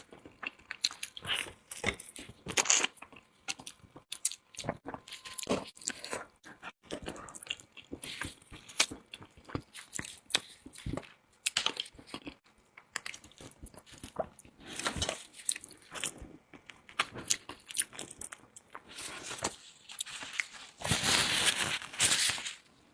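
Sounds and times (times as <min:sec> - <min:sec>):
person chewing and crunching: 0:00.0 - 0:22.6.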